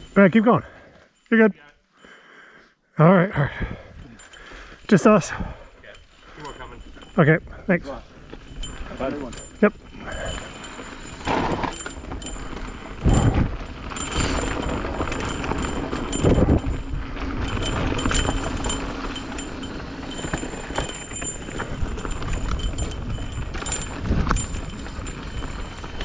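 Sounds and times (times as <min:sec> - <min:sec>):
bike tyres on dirt trail: 0:03.8 - 0:26.0.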